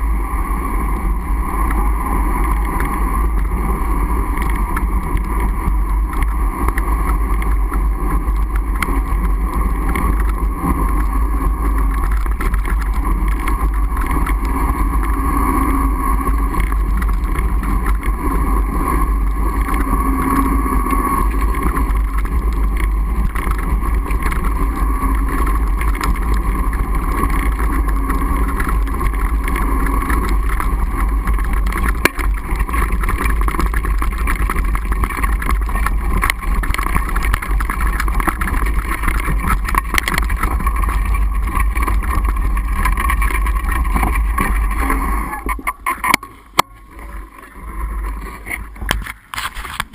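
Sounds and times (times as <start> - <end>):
bike tire rolling over snow: 0.0 - 49.9
wavering hum: 0.0 - 49.9
wind on microphone: 0.0 - 49.9.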